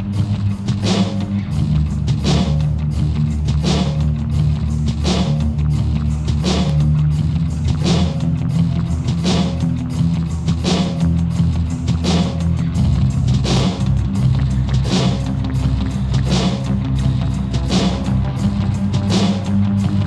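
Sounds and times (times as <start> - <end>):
rock music with guitar and drums: 0.0 - 20.0.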